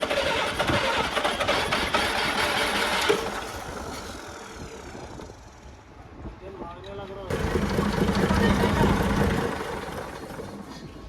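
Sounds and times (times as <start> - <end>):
diesel engine clattering: 0.0 - 5.9, 7.3 - 11.0.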